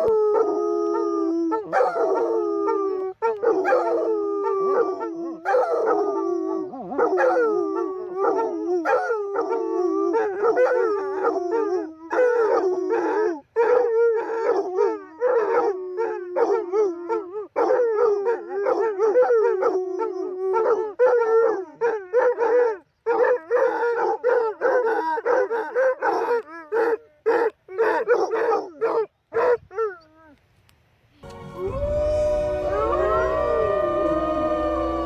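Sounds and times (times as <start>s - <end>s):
pack of canines howling: 0.0s - 26.6s, 31.2s - 35.0s.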